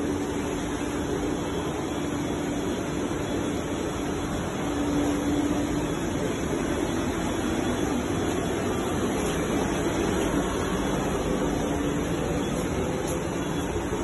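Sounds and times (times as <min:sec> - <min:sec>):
machine whirring with low hum: 0:00.0 - 0:14.0.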